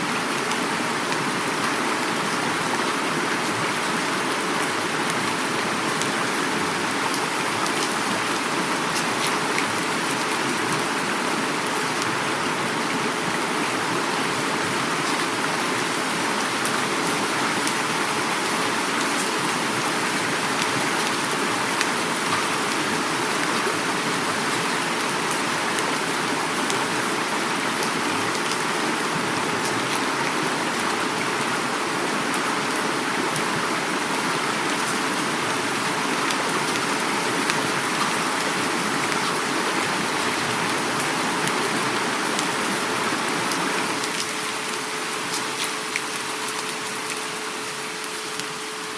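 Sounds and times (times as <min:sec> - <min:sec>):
heavy rain falling: 0:00.0 - 0:48.9
river water rushing: 0:00.0 - 0:48.9.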